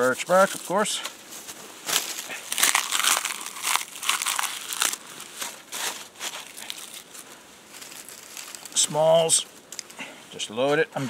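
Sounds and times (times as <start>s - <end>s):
dry bark crinkling: 0.0s - 10.8s.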